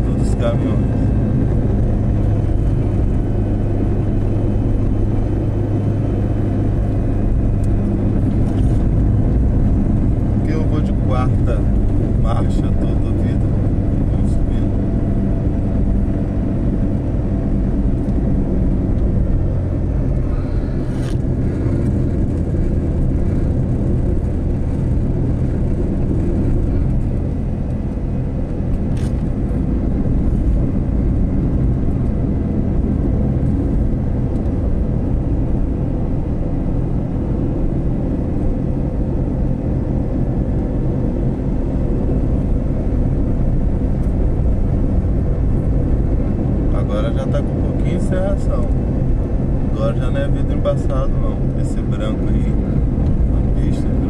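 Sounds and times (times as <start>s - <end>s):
car engine hum: 0.0s - 54.0s
tyre and road rumble: 0.0s - 54.0s.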